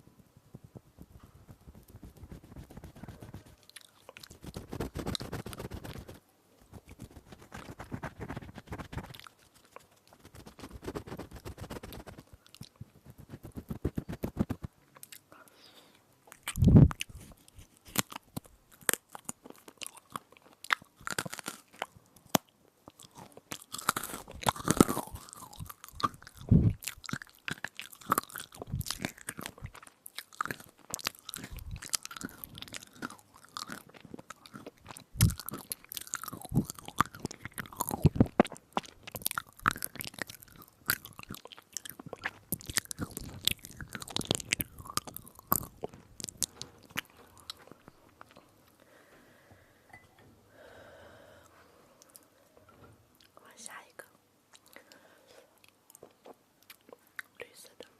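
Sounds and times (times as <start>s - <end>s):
crunching and chewing: 1.1s - 15.4s, 16.2s - 48.8s, 54.5s - 55.0s, 55.6s - 57.8s.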